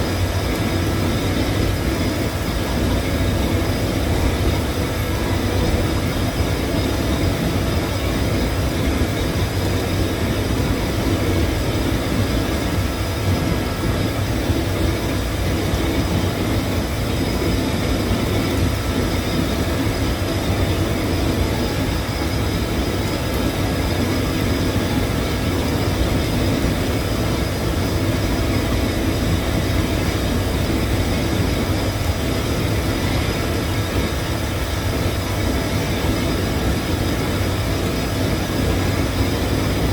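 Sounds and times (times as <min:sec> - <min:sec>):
faint steady hum: 0:00.0 - 0:39.9
welding machine rumble: 0:00.0 - 0:39.9.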